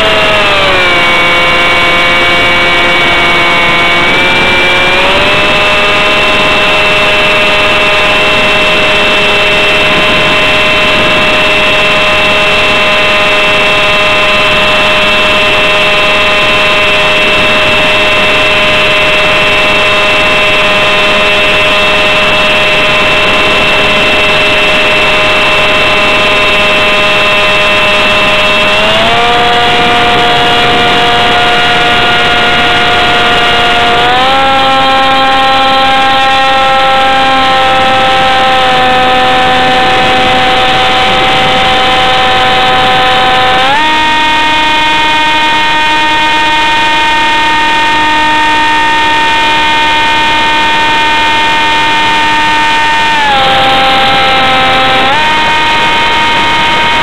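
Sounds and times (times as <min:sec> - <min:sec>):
model jet motor whine: 0:00.0 - 0:57.0.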